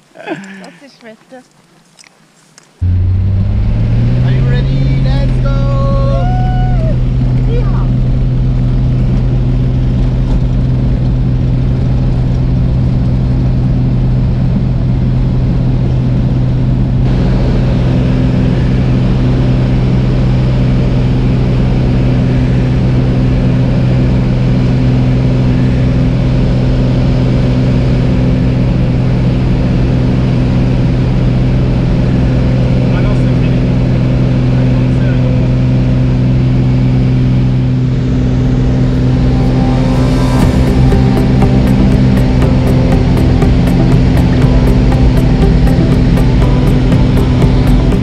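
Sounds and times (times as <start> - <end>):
light aircraft engine drone: 2.4 - 48.0.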